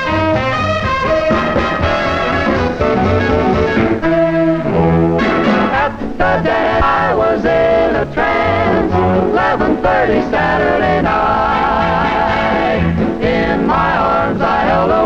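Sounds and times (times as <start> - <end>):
swing big band playing: 0.0 - 15.0
trumpets and trombones: 0.0 - 15.0.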